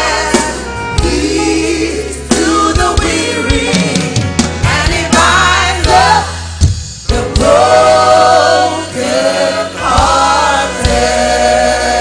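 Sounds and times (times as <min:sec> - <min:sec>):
choir singing gospel song: 0:00.0 - 0:12.0.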